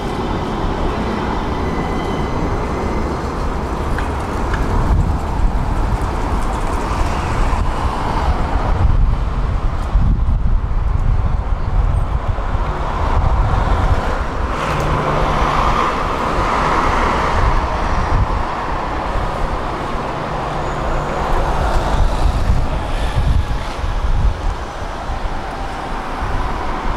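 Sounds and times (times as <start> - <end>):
tram wheels rumbling on rails: 0.0 - 26.9.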